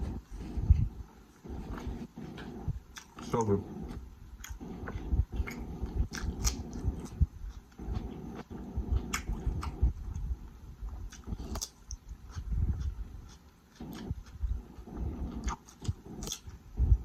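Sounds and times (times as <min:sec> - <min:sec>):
close chewing with mouth smacks: 0:01.5 - 0:16.8.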